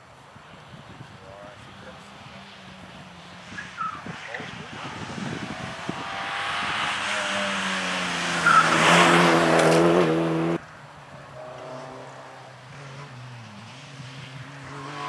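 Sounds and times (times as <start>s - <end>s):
rally car engine at full throttle: 1.3s - 15.0s.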